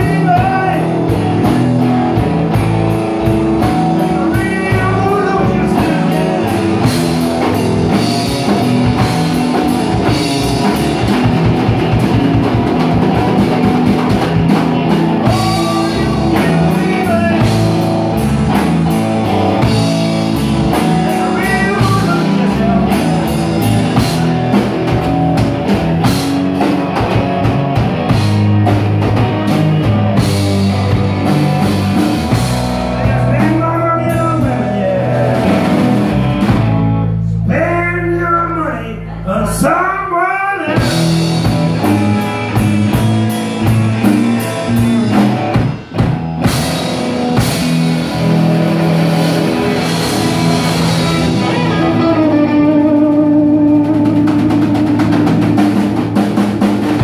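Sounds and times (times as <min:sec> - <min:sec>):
drum kit beat: 0:00.0 - 0:38.1, 0:40.7 - 0:57.0
bass: 0:00.0 - 0:57.0
electric guitar: 0:00.0 - 0:57.0.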